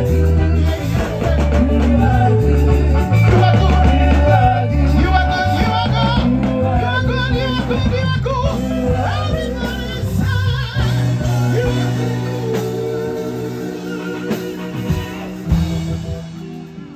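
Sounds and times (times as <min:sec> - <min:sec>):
band with steady bass: 0:00.0 - 0:16.9
voices singing with vibrato: 0:00.0 - 0:16.9.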